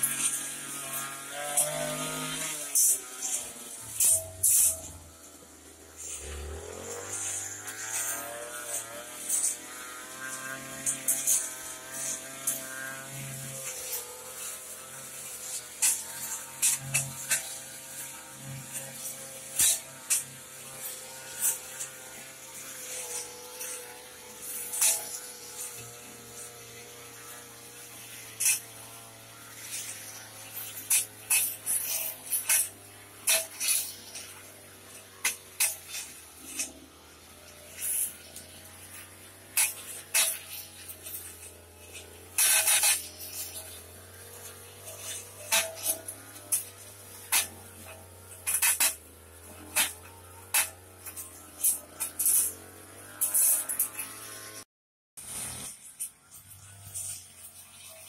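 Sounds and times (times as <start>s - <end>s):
brush cutter engine under load: 0.0s - 58.0s.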